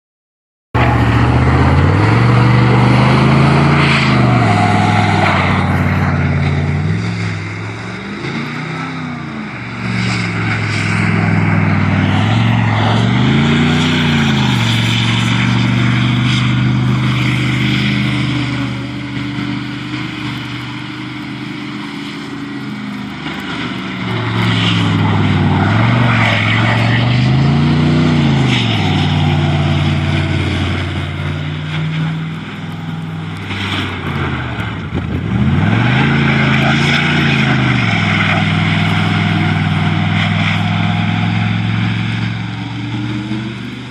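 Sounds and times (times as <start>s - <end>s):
truck engine revving: 0.8s - 43.9s.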